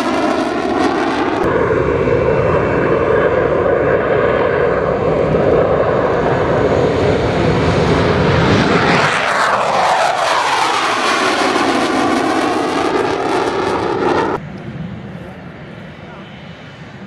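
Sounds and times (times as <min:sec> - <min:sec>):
jet whine falling in pitch: 0:00.0 - 0:16.4
jet engines roaring: 0:00.0 - 0:17.0.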